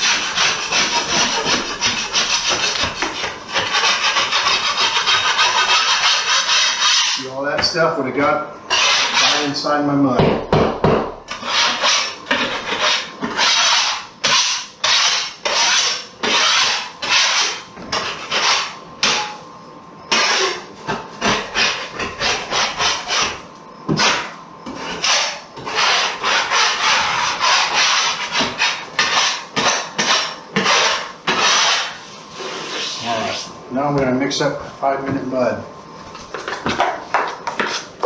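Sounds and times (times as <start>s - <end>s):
drywall knife scraping: 0.0s - 7.7s, 8.7s - 9.7s, 11.3s - 19.4s, 20.1s - 33.5s, 36.3s - 38.0s.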